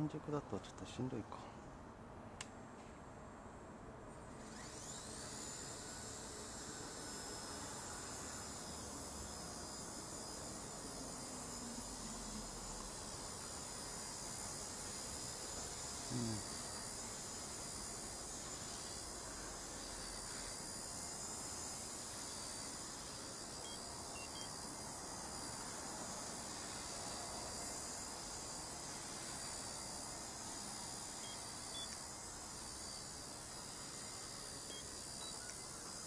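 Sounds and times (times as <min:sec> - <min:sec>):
toy helicopter rotor whine: 0:04.2 - 0:36.0.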